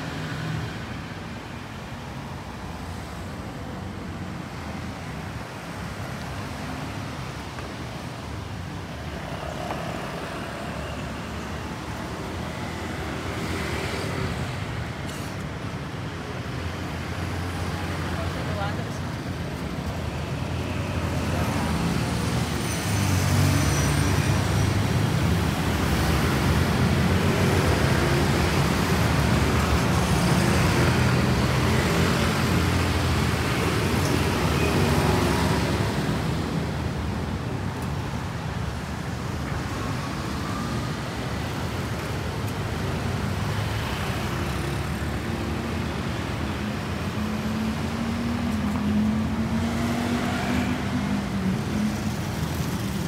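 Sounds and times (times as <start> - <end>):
street traffic hum: 0.0 - 53.0.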